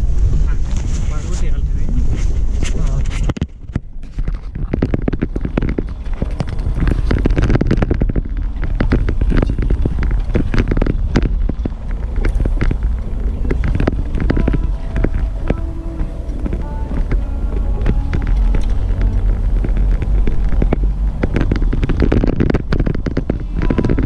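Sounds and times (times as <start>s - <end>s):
vehicle rumbling on rough track: 0.0s - 24.0s
knocks and rattles: 2.0s - 24.0s.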